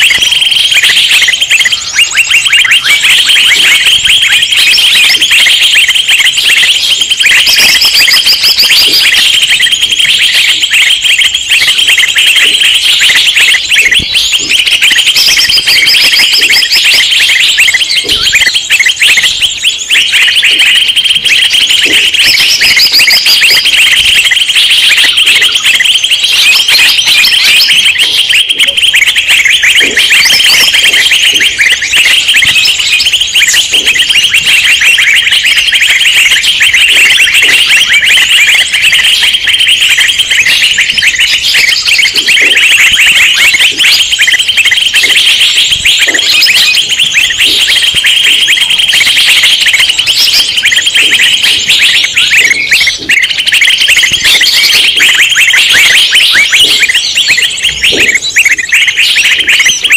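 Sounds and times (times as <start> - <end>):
small birds chirping and chattering: 0.0 - 59.9.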